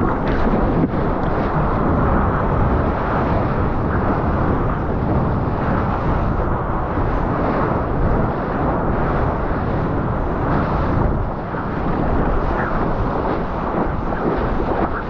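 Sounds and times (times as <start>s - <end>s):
rush of water and wind: 0.0s - 15.0s.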